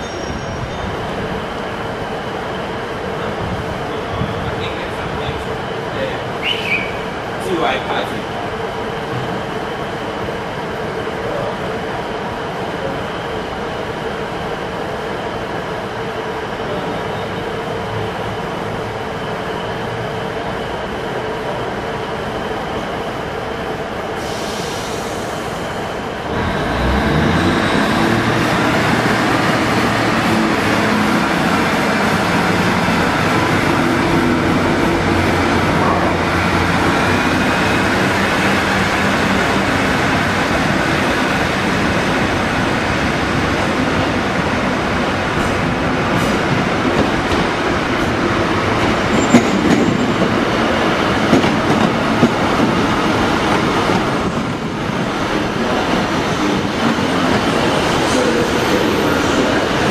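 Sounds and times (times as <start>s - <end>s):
diesel train engine: 0.0s - 59.9s.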